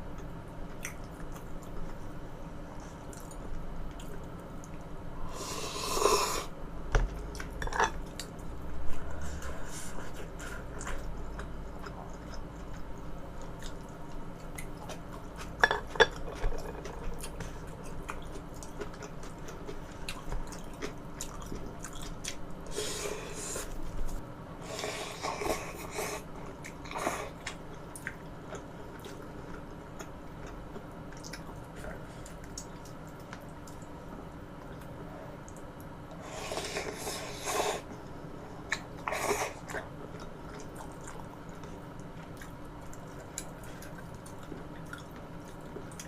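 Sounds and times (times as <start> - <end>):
chewing and wet mouth noises: 0.1 - 4.9, 7.1 - 46.0.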